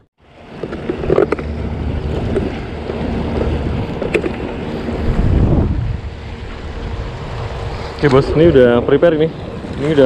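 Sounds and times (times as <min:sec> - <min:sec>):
wind buffeting microphone: 0:00.3 - 0:10.0
sea water washing against concrete: 0:00.4 - 0:10.0.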